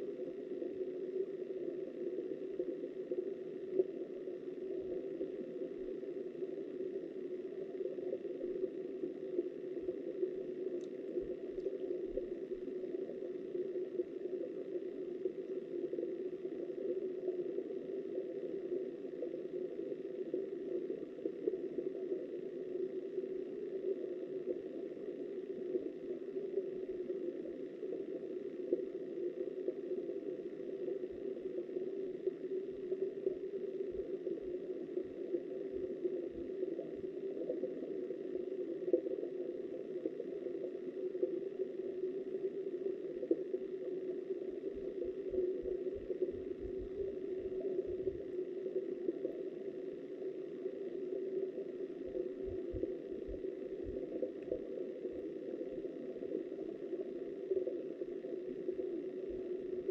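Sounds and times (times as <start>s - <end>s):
muffled underwater river current: 0.0s - 59.9s.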